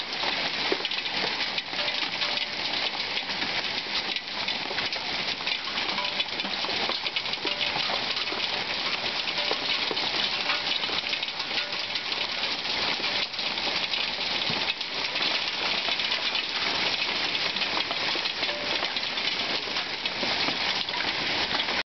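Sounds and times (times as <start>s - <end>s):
hailstones striking surfaces: 0.0s - 21.8s.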